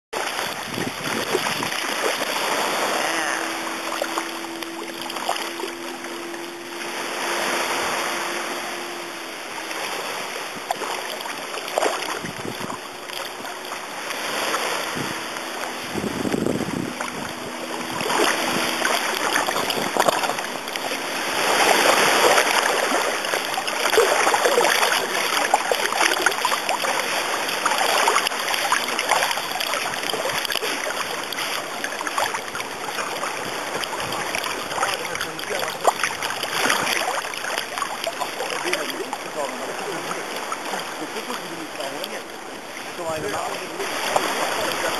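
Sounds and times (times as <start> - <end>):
small waves lapping: 0.1 - 44.9
dog swimming: 0.2 - 44.9
person wading through water: 0.2 - 44.9.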